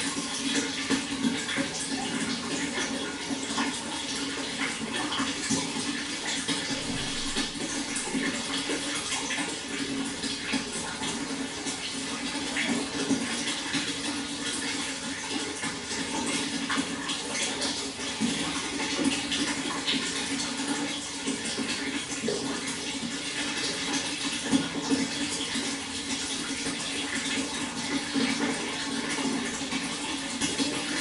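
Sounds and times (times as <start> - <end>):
water flowing: 0.0 - 31.0.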